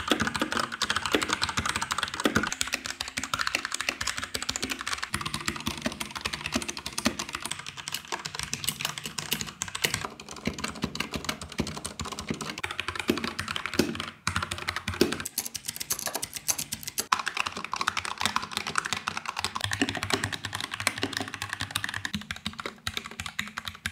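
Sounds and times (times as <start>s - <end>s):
fast typing on keyboards: 0.0s - 23.9s.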